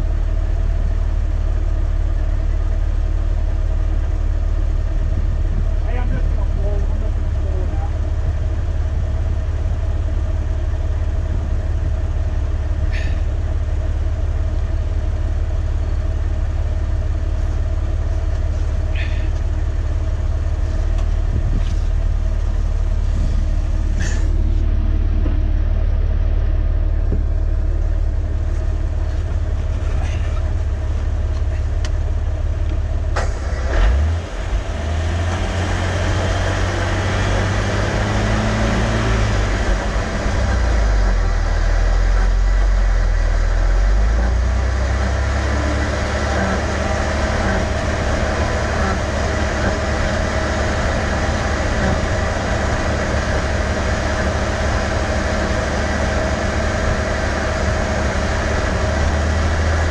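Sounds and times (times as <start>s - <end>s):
engine idling with deep rumble: 0.0s - 59.9s.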